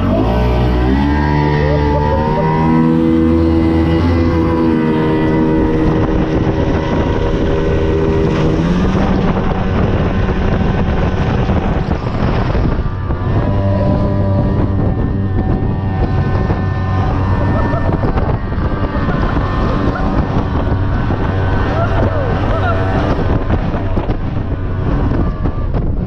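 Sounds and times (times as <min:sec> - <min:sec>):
outboard motor driving boat: 0:00.0 - 0:26.0
wind buffeting microphone: 0:00.0 - 0:26.0.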